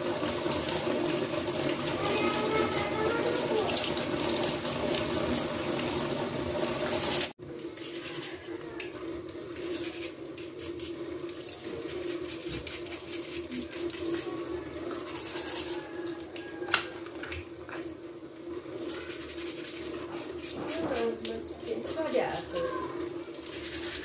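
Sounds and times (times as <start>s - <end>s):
scouring pad scrubbing shell: 0.0s - 16.6s, 18.5s - 24.0s
tap water running and splashing: 0.0s - 24.0s.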